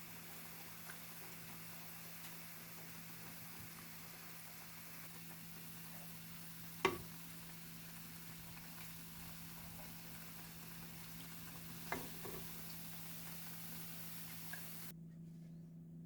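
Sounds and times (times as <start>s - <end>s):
food sizzling in oil: 0.0s - 14.9s.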